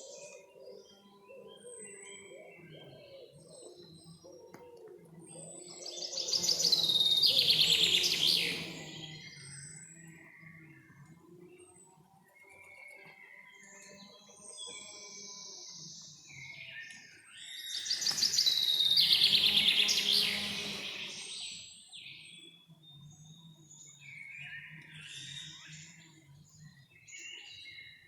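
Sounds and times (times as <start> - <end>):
songbirds singing and chirping: 0.0 - 28.0.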